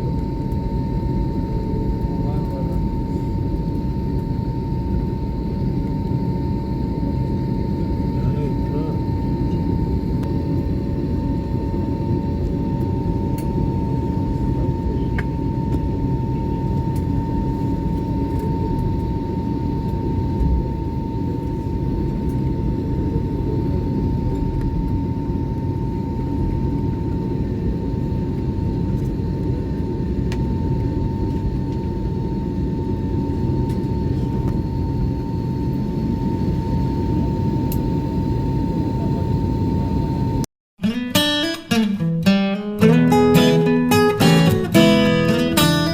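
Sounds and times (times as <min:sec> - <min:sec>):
airliner cabin rumble: 0:00.0 - 0:40.4
constant high whine: 0:00.0 - 0:40.5.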